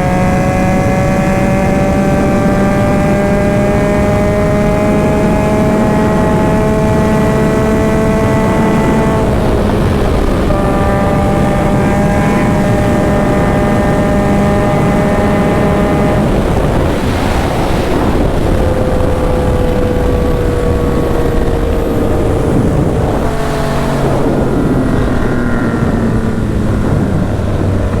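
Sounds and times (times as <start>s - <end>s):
motorcycle engine: 0.0s - 28.0s
wind on microphone: 0.0s - 28.0s.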